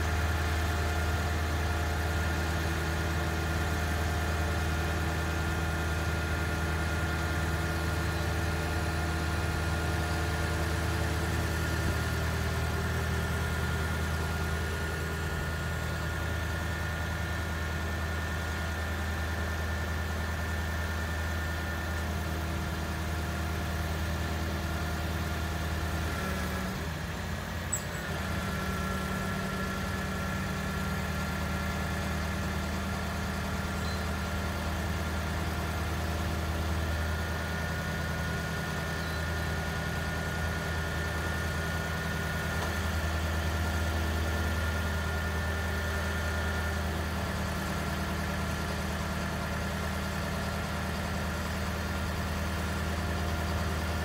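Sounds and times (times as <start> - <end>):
truck engine idling with whine: 0.0 - 54.0.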